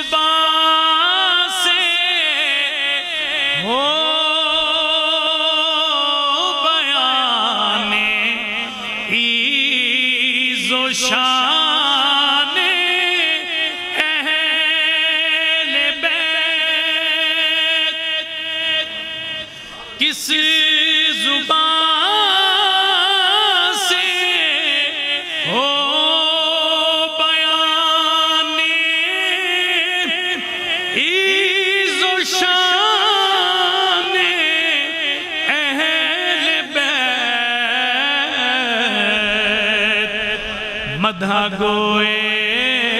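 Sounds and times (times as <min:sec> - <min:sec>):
man singing devotional song: 0:00.0 - 0:42.9.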